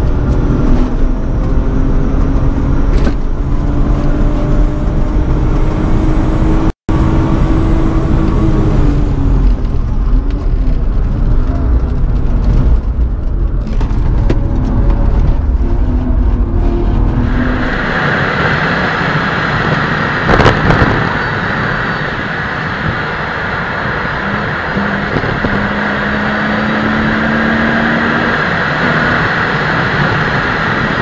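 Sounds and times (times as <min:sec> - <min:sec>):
car engine revving: 0:00.0 - 0:31.0
wind and tyre noise: 0:00.0 - 0:31.0.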